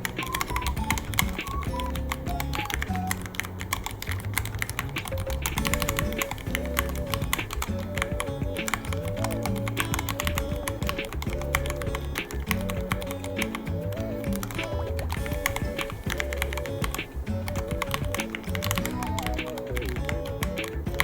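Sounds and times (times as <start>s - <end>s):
background music: 0.0s - 21.0s
mechanical keyboard typing: 0.0s - 21.0s.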